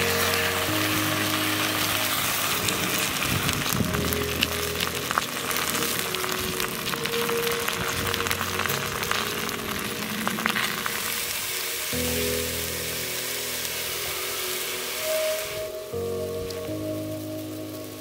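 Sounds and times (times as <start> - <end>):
background music: 0.0 - 18.0
food frying in hot oil: 0.0 - 18.0.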